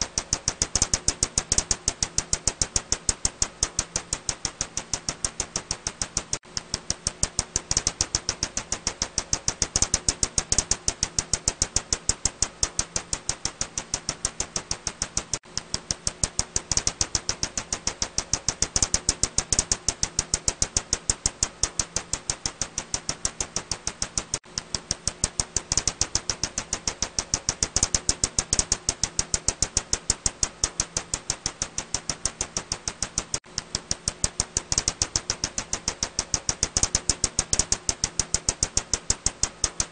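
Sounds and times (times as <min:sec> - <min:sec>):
bat echolocation clicks: 0:00.0 - 0:39.9.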